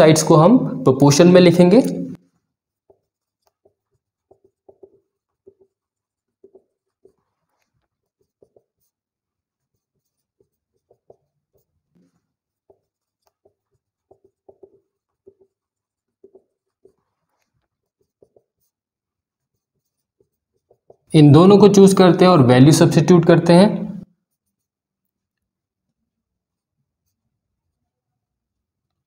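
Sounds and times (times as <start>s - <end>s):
marker squeaking on whiteboard: 1.0s - 22.2s, 23.2s - 25.8s.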